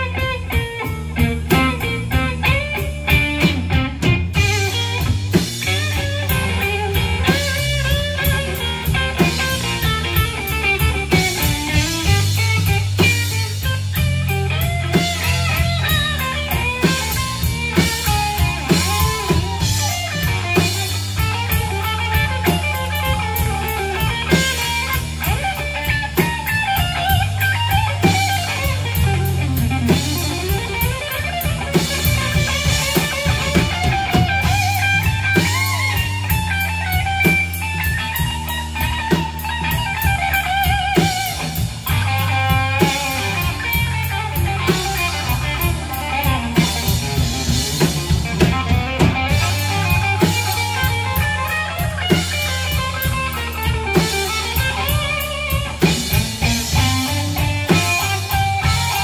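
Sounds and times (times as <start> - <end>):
drum kit: 0.0 - 59.0
electric bass guitar: 0.0 - 59.0
electric lead guitar bending notes: 0.0 - 59.0.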